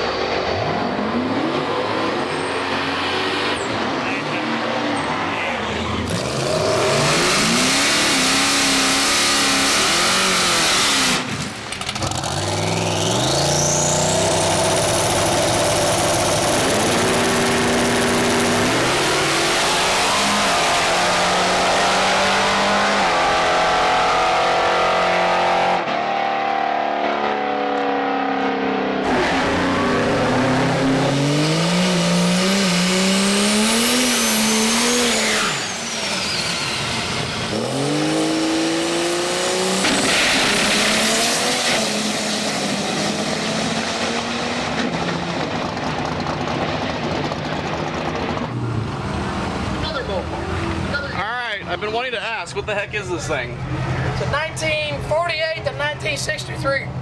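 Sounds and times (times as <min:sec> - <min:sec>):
drag car engines at full throttle: 0:00.0 - 0:57.0.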